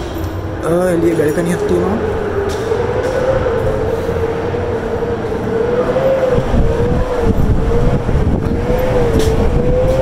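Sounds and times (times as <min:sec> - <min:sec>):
steady wavering tone: 0:00.0 - 0:10.0
wind rumbling on microphone: 0:00.0 - 0:10.0.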